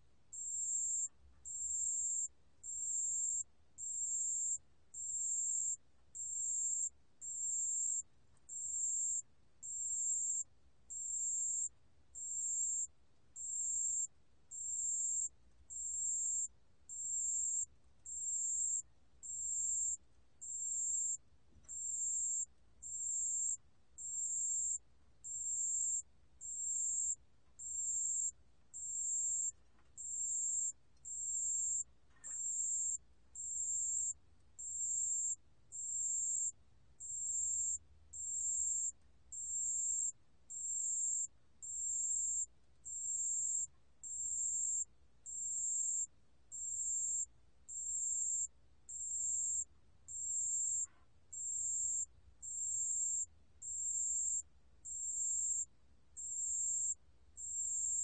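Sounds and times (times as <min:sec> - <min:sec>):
bell cricket chirping: 0:00.4 - 0:58.0.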